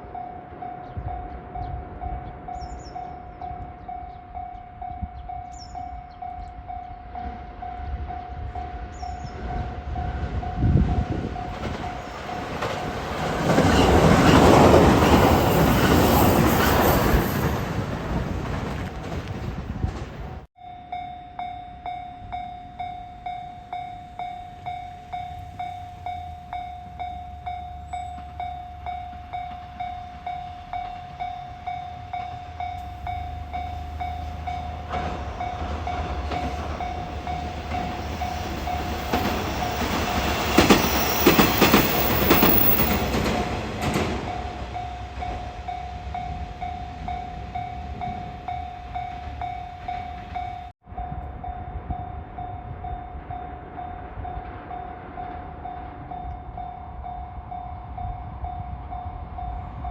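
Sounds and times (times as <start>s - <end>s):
train passing with wheel clatter: 0.0s - 59.9s.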